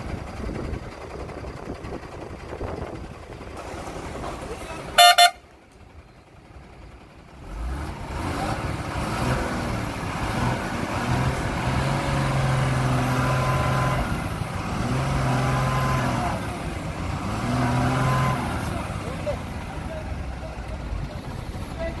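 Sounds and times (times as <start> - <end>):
heavy diesel engine revving: 0.0 - 22.0.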